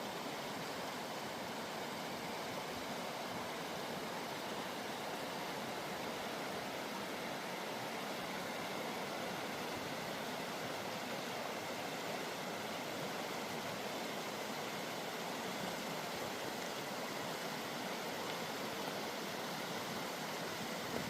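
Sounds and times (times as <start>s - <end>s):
mountain creek rushing: 0.0s - 21.0s.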